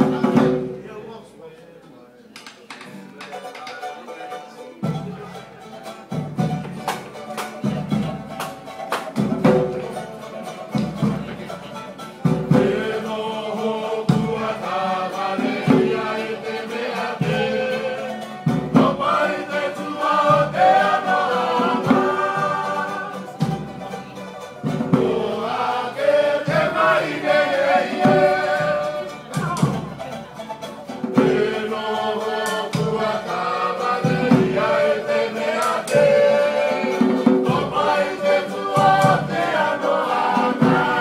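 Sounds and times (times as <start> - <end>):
group singing in harmony: 0.0 - 0.8, 5.6 - 41.0
strummed acoustic string instrument: 0.0 - 41.0
regular beat: 4.8 - 41.0.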